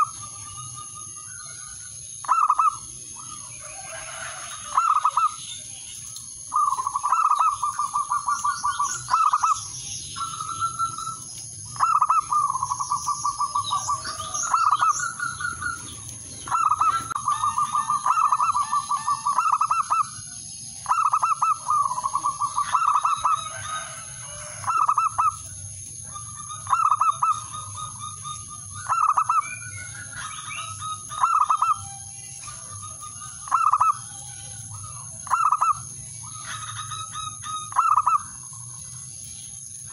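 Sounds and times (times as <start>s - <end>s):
dove cooing: 0.0s - 5.4s, 6.5s - 38.7s.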